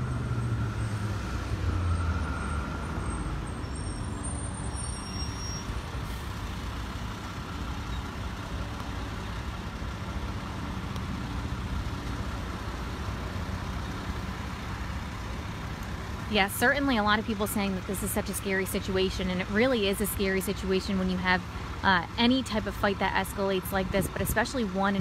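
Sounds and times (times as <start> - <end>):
low traffic rumble: 0.0 - 25.0
vehicle engine rumbling: 0.0 - 25.0.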